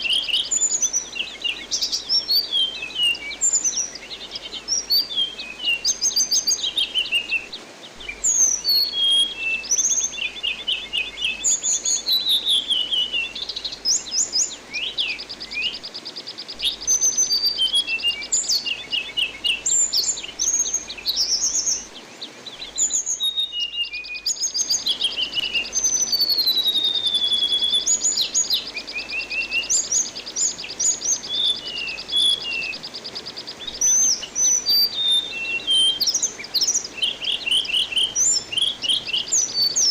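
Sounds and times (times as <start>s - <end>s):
thrush singing whistles and trills: 0.0s - 39.9s.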